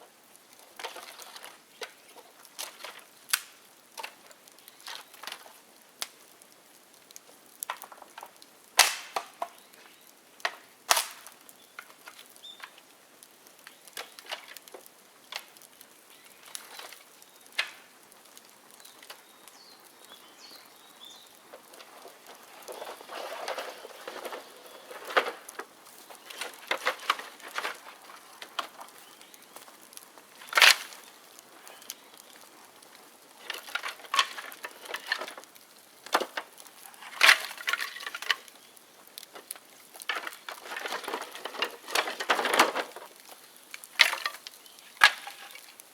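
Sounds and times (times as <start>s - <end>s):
bamboo bonfire crackling: 0.0s - 45.9s
sharp pops and cracks: 0.0s - 45.9s.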